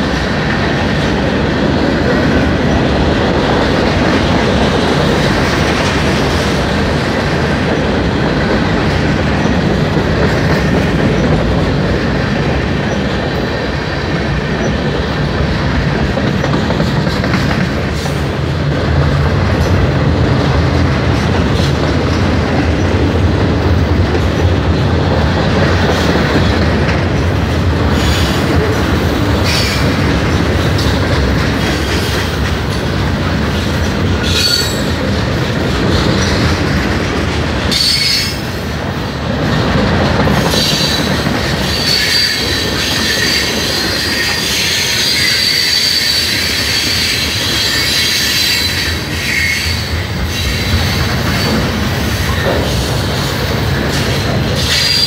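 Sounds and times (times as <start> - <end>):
clickety-clack over rail joints: 0.0 - 55.0
train wheels rumbling on rail: 0.0 - 55.0.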